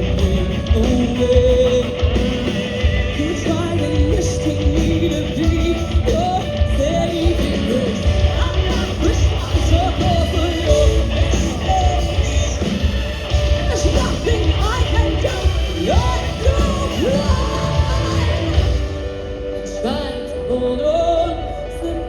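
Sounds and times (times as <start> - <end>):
heavy drums: 0.0 - 20.3
live hard rock band: 0.0 - 22.0.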